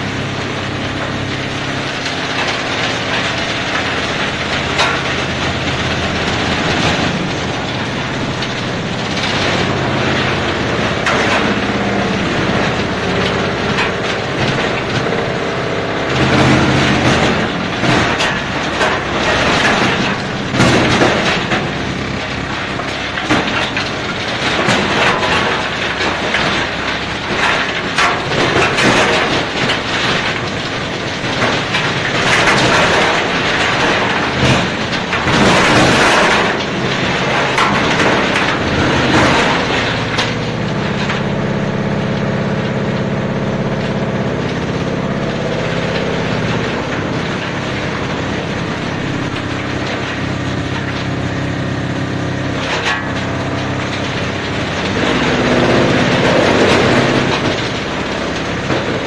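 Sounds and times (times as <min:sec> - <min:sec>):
shredder machine hum: 0:00.0 - 0:59.0
wood cracking: 0:00.1 - 0:59.0.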